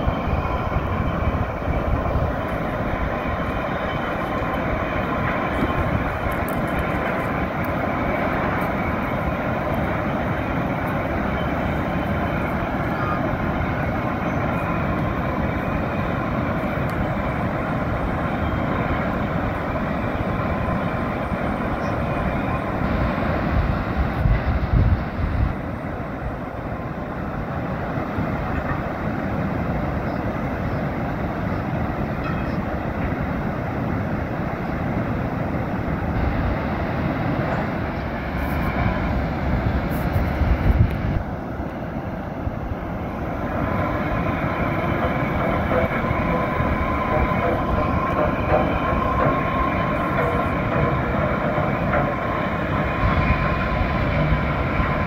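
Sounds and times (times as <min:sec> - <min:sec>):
river water roaring through dam gates: 0:00.0 - 0:55.0.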